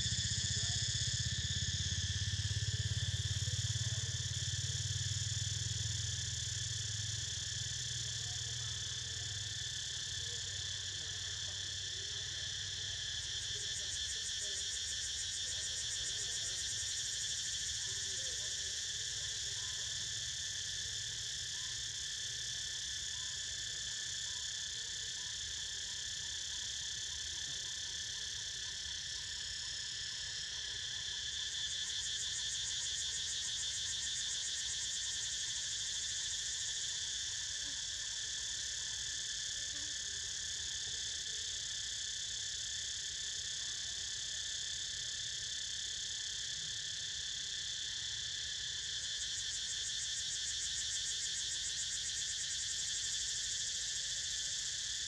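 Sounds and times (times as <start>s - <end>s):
cicadas droning: 0.0s - 55.0s.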